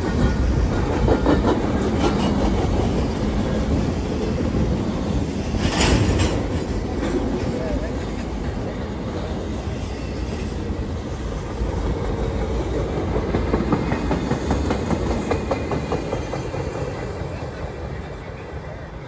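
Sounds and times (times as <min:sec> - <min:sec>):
train wheels clicking over rail joints: 0:00.0 - 0:17.8
train rumble: 0:00.0 - 0:19.0.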